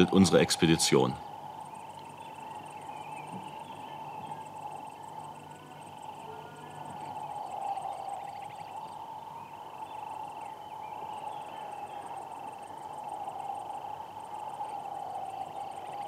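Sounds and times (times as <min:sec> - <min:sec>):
crickets chirping: 0:00.0 - 0:16.0
steady insect drone: 0:00.0 - 0:16.0.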